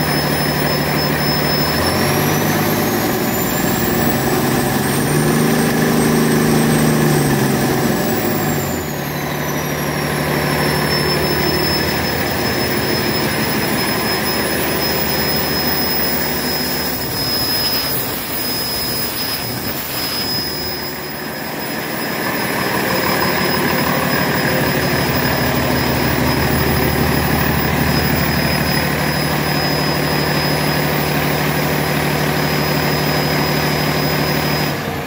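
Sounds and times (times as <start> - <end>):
diesel engine running: 0.0 - 35.0
thin high whine: 0.0 - 35.0.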